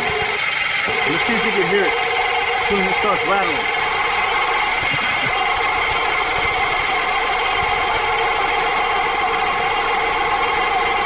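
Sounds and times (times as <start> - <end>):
alternator running noise: 0.0 - 11.0
car engine idling: 0.0 - 11.0.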